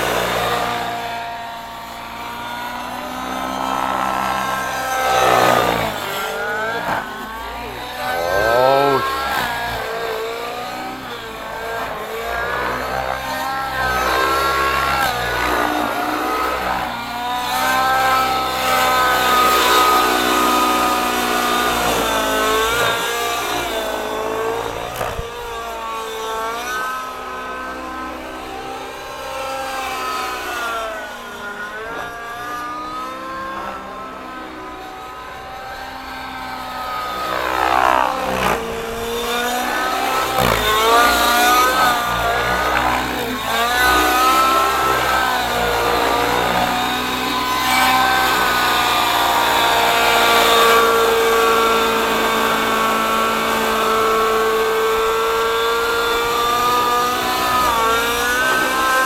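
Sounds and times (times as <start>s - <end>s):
rc helicopter engine and rotor: 0.0s - 59.0s.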